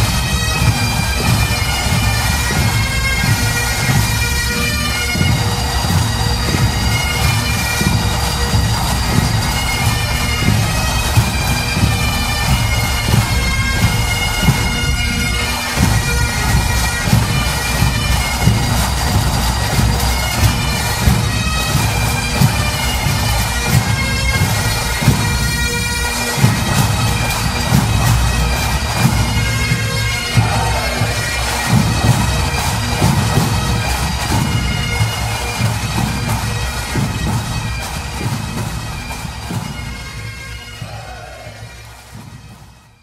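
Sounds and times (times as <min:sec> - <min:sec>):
bagpipes playing a march: 0:00.0 - 0:43.0.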